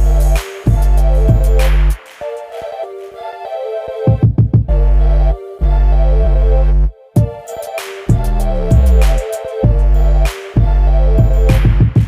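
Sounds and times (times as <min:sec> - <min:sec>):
electronic music with heavy beat: 0:00.0 - 0:03.4, 0:04.0 - 0:12.0.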